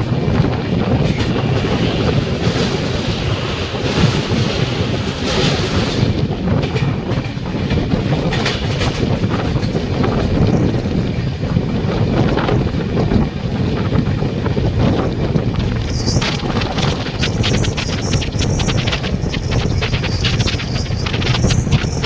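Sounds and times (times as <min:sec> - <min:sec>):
train wheels rumbling: 0:00.0 - 0:22.0
wheels clacking on rail joints: 0:00.0 - 0:22.0.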